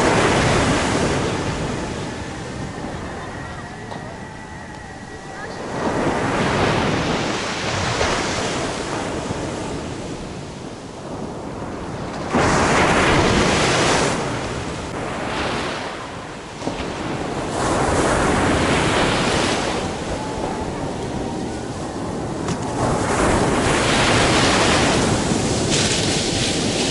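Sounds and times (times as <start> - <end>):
sea surf breaking on beach: 0.0 - 26.9.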